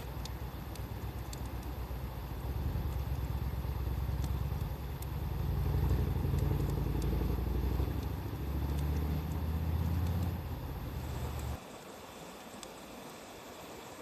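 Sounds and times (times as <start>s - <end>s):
vehicle engine rumble: 0.0s - 11.6s
wood fire crackling: 0.0s - 11.6s.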